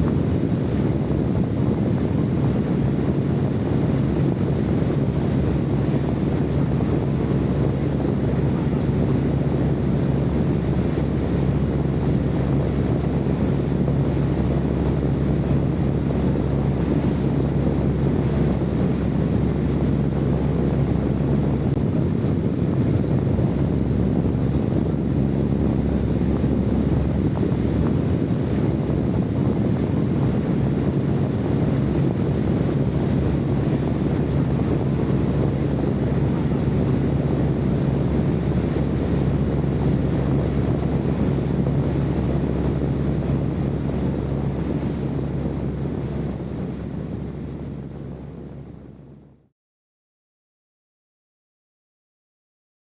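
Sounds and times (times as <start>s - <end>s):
faint steady hum: 0.0s - 49.4s
low rumbling white noise: 0.0s - 49.5s.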